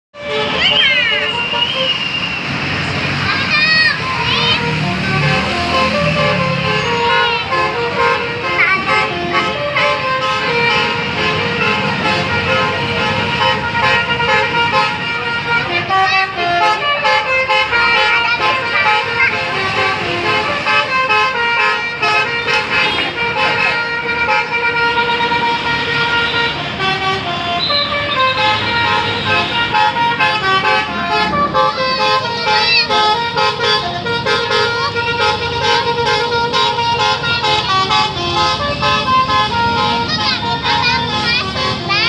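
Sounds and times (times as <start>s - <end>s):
bus musical horn melody: 0.1s - 42.0s.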